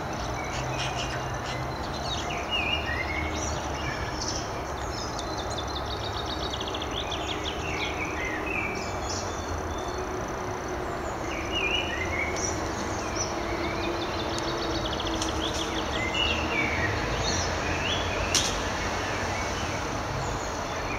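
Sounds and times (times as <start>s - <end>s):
outdoor background hiss: 0.0s - 20.9s
songbirds chirping and trilling: 0.0s - 20.9s.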